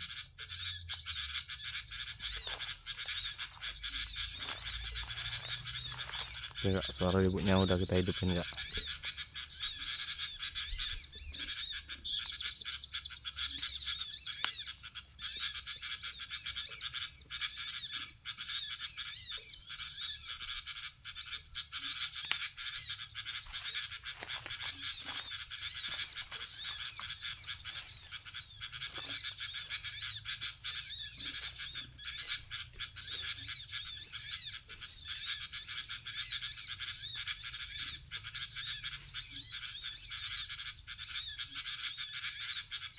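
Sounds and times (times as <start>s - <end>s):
many small birds chattering: 0.0s - 42.9s.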